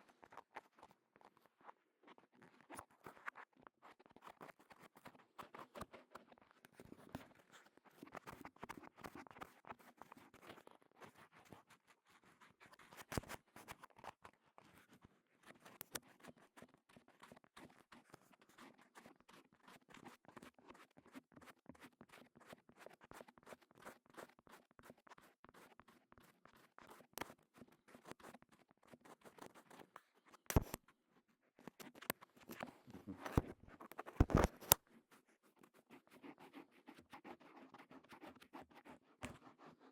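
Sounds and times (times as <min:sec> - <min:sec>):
crackly scratching at microphone: 0:00.1 - 0:39.9.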